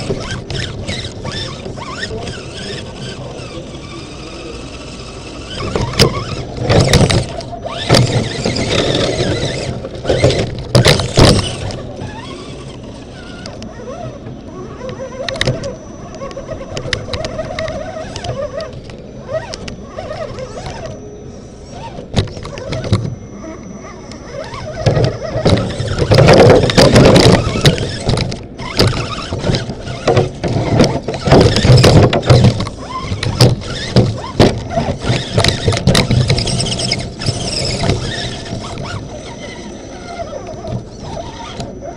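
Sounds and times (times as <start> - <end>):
electric motor whine: 0.0 - 41.9.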